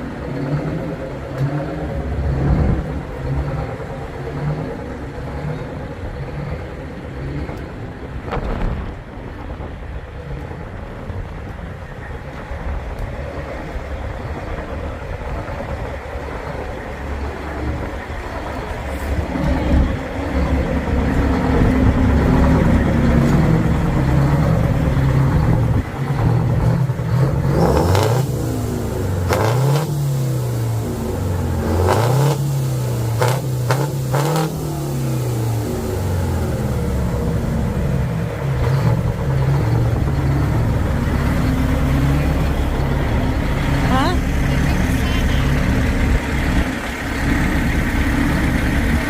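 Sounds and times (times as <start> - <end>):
vehicle engine idling and revving: 0.0 - 49.0.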